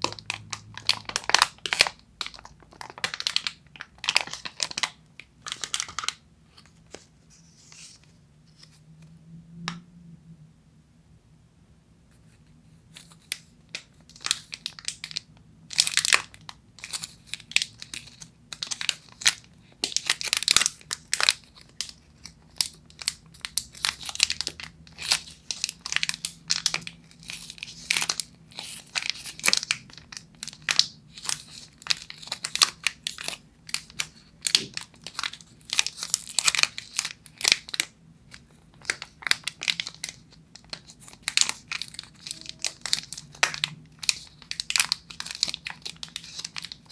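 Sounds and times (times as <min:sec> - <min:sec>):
wrapper crackling: 0:00.0 - 0:06.2, 0:13.0 - 0:46.9.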